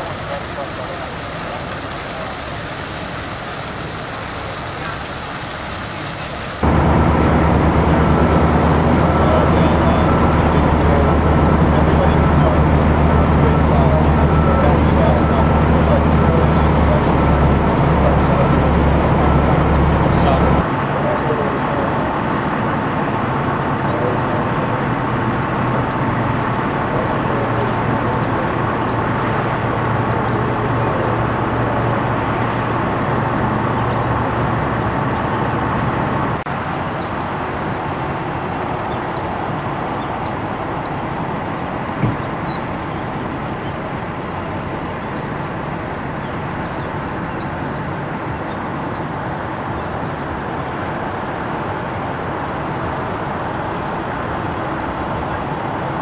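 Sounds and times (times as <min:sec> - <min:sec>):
fire engine idling: 0:00.0 - 0:56.0.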